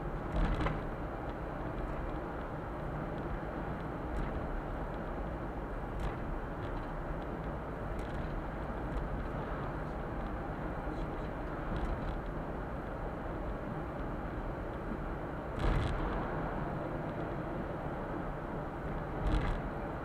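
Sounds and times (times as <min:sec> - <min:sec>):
truck engine and tyre noise: 0:00.0 - 0:20.0.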